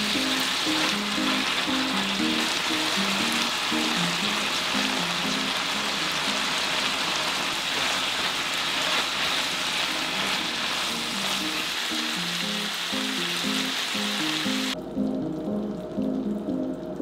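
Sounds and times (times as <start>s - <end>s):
background music: 0.0s - 7.4s, 9.8s - 17.0s
food sizzling in frying pan: 0.0s - 14.8s.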